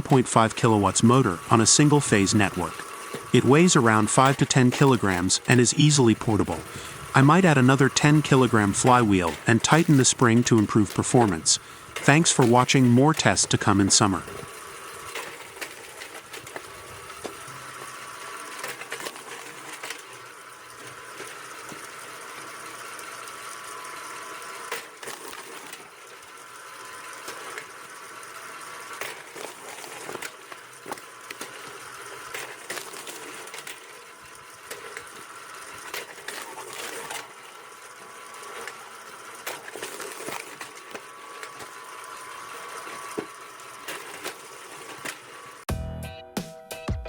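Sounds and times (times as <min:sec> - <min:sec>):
electric motor hum: 0:00.0 - 0:45.7.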